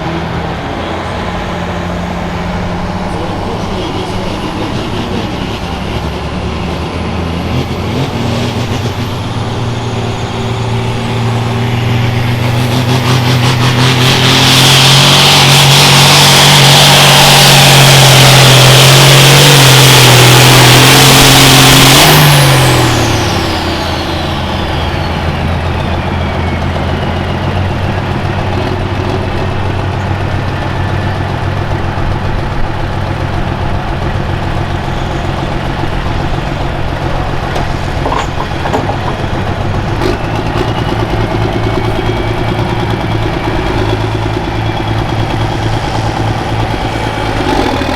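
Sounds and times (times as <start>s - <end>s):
tractor diesel engine: 0.0s - 47.9s.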